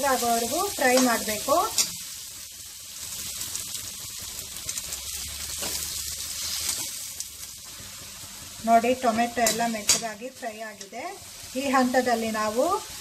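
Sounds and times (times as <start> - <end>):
onion and tomato sizzling in oil: 0.0 - 13.0.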